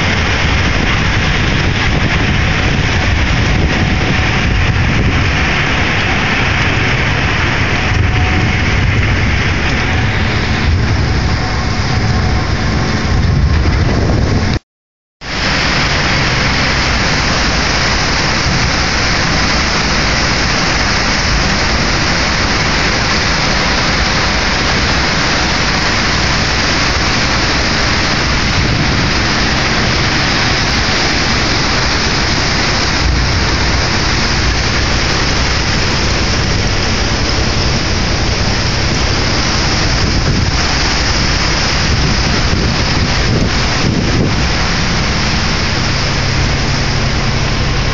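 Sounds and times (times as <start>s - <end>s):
ferry engine rumbling: 0.0s - 14.6s, 15.2s - 47.9s
ice and water rushing along hull: 0.0s - 14.6s, 15.2s - 47.9s.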